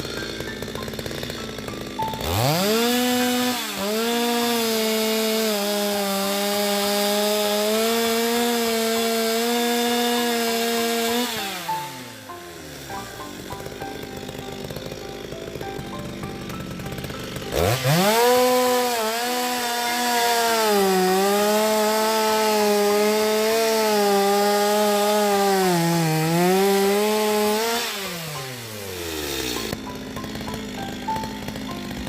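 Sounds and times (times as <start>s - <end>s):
chainsaw engine revving: 0.0s - 32.0s.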